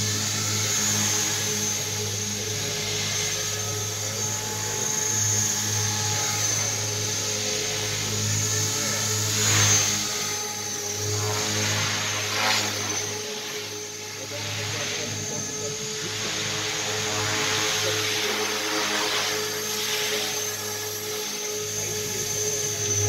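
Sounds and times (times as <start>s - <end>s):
model helicopter high whine: 0.0s - 23.0s.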